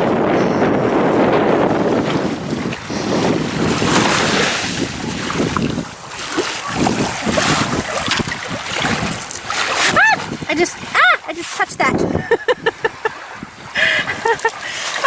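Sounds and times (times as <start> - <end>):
small waves washing ashore: 0.0 - 15.0
wind buffeting microphone: 0.0 - 15.0.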